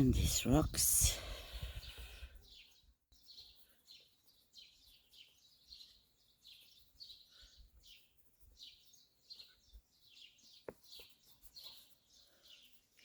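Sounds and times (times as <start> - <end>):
faint bird chirps: 1.1 - 13.0.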